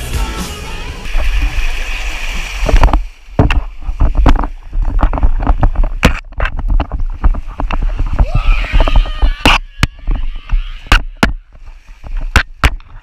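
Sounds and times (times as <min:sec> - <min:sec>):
water rushing down a slide: 0:00.6 - 0:13.0
sharp knocks and splashes: 0:01.1 - 0:13.0.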